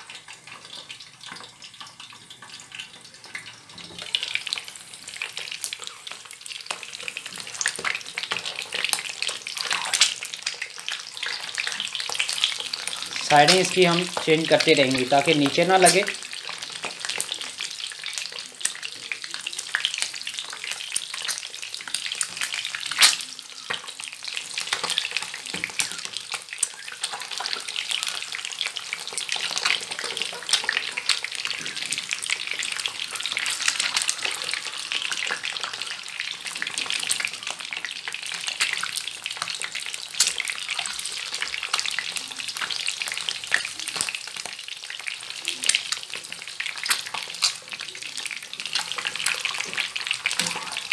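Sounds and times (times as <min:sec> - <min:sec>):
oil sizzling and crackling: 0:00.0 - 0:50.9.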